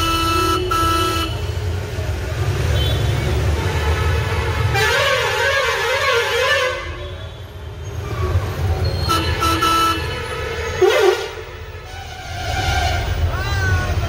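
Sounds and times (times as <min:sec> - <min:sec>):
vehicle horns honking: 0:00.0 - 0:01.7, 0:02.7 - 0:08.2, 0:08.8 - 0:13.4.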